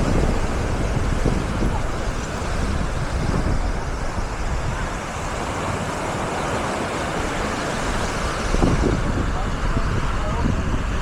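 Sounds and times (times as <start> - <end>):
surf washing on beach: 0.0 - 11.0
wind on microphone: 0.0 - 11.0.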